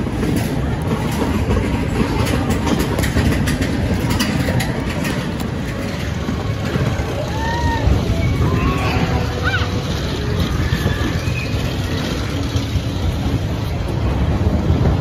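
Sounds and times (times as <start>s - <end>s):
roller coaster rumbling and rattling: 0.0s - 15.0s.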